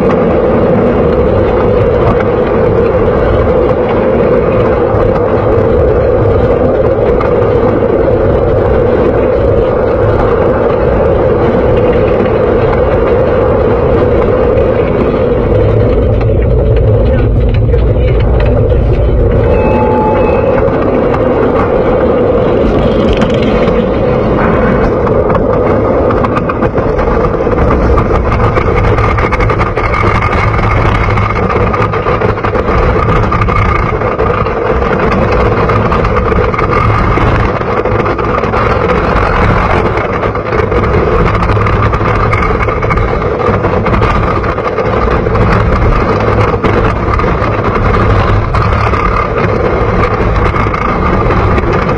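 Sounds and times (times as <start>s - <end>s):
roller coaster rumbling on wooden track: 0.0s - 51.9s.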